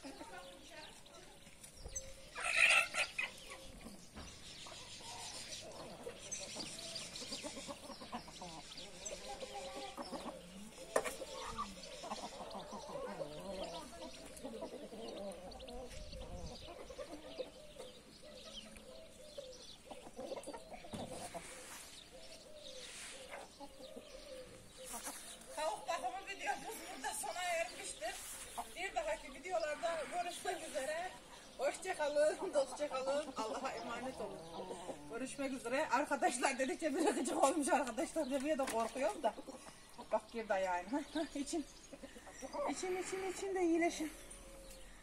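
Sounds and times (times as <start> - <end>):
chickens clucking and calling: 0.0 - 45.0.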